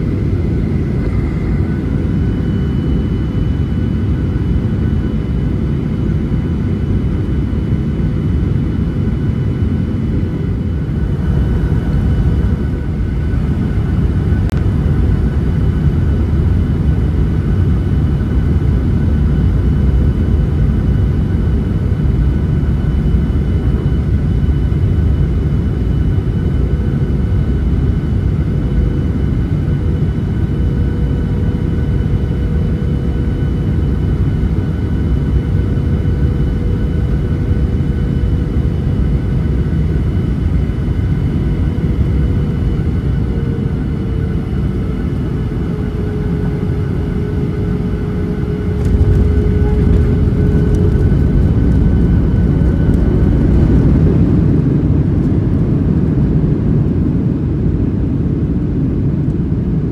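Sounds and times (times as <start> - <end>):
jet engine rumble and whine: 0.0 - 59.9.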